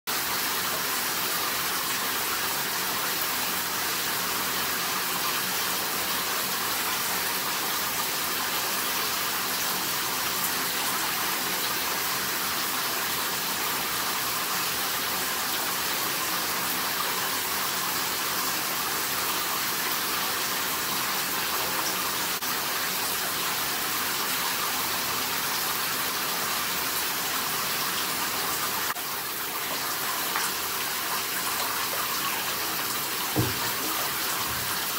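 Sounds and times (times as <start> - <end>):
shower running: 0.1 - 34.9.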